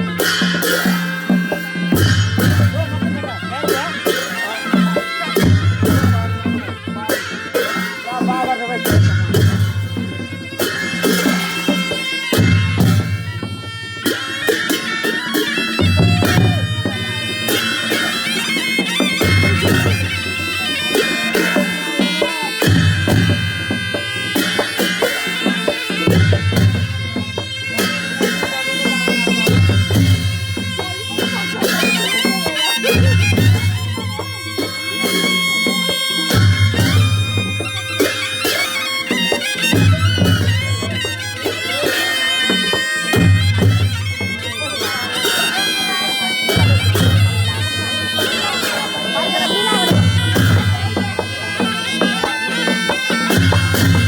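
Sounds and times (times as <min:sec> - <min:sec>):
drum beats: 0:00.0 - 0:54.0
folk band playing: 0:00.0 - 0:54.0
reed pipe melody: 0:00.0 - 0:54.0.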